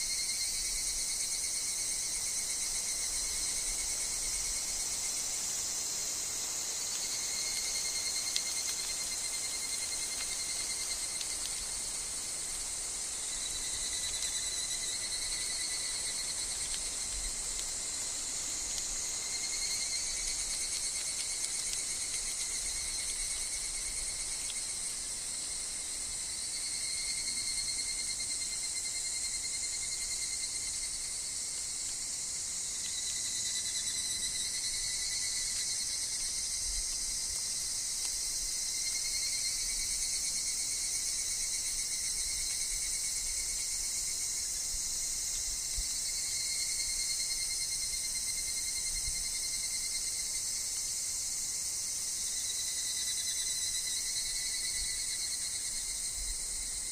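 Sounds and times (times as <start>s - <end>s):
cicadas calling in chorus: 0.0s - 56.9s
thin insect trill: 0.0s - 56.9s.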